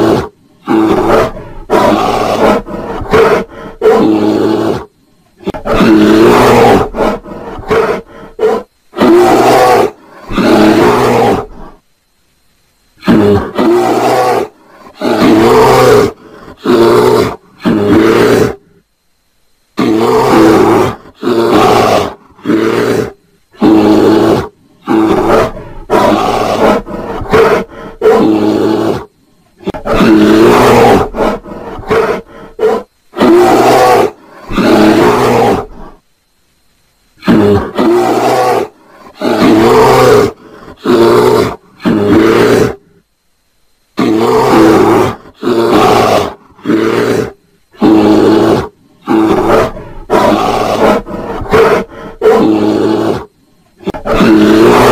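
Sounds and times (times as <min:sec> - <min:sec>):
bears growling roars: 0:00.0 - 0:11.8, 0:19.8 - 0:36.0, 0:37.2 - 0:42.9, 0:44.0 - 0:54.9.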